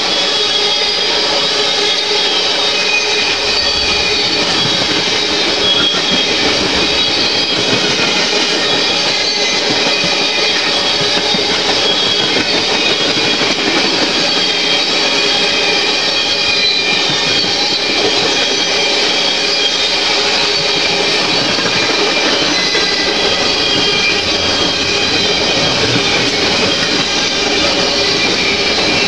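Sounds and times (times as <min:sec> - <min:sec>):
high wheel squealing: 0:00.0 - 0:29.0
train wheels rumbling on rails: 0:00.0 - 0:29.0.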